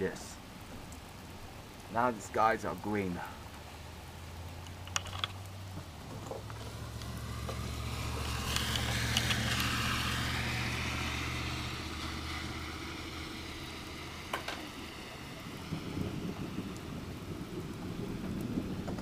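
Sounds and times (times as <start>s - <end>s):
tyres hissing on wet street: 0.0s - 19.0s.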